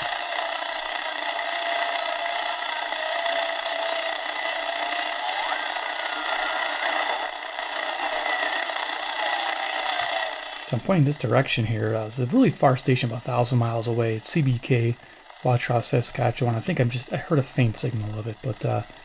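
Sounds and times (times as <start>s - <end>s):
radio static hiss: 0.0s - 19.0s
wavering radio whistle: 0.0s - 19.0s
weak distant radio station: 0.0s - 19.0s.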